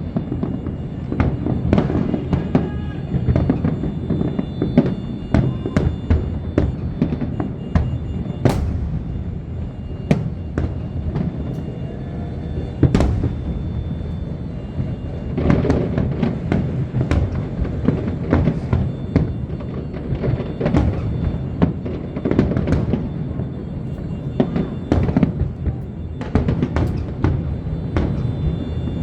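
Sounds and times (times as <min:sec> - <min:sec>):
fireworks bangs and crackle: 0:00.0 - 0:29.0.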